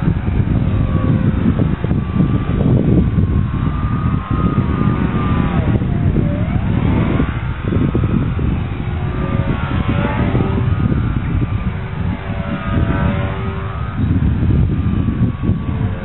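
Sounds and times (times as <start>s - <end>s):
rc plane motor whining: 0.0s - 16.0s
wind rumble on microphone: 0.0s - 16.0s.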